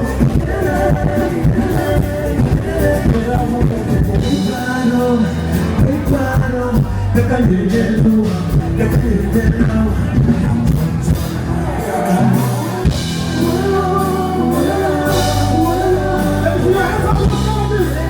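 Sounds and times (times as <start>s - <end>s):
live band with singing: 0.0s - 18.0s.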